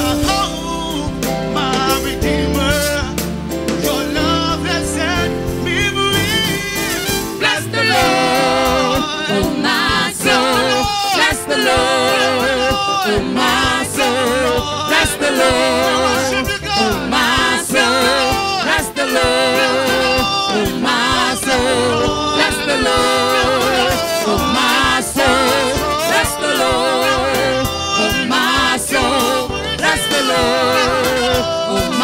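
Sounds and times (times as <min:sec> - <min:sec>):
band accompaniment chords: 0:00.0 - 0:32.0
man singing gospel: 0:00.0 - 0:32.0.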